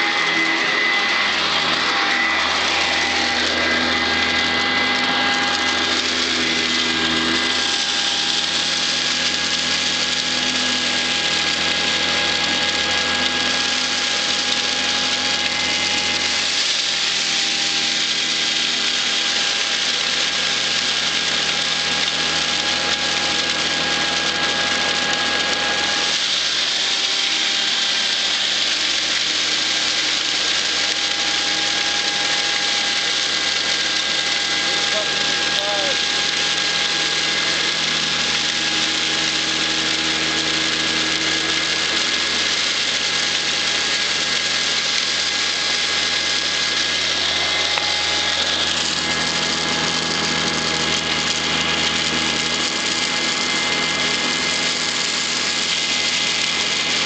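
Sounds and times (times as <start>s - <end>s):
upright vacuum cleaner running: 0.0s - 57.0s.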